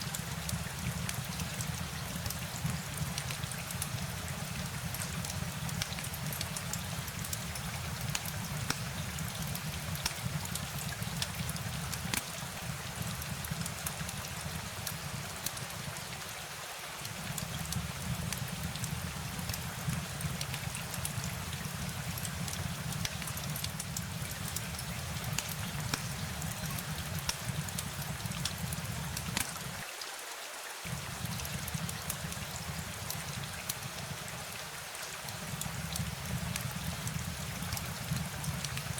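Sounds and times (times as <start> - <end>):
rain hissing: 0.0 - 29.9, 30.8 - 38.9.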